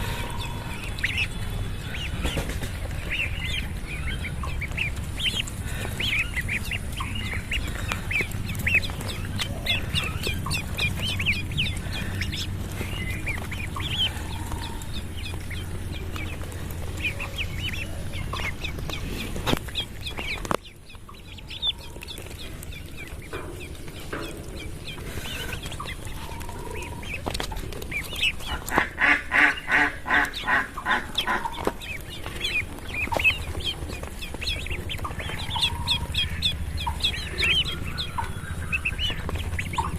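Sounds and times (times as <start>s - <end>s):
ducklings peeping: 0.0s - 39.9s
low hum: 0.0s - 39.9s.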